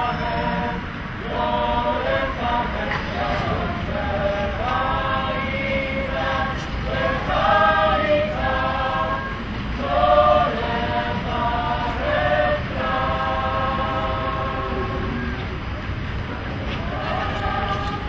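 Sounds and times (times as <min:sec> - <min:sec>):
choir singing held notes: 0:00.0 - 0:18.0
low steady rumble: 0:00.0 - 0:18.0.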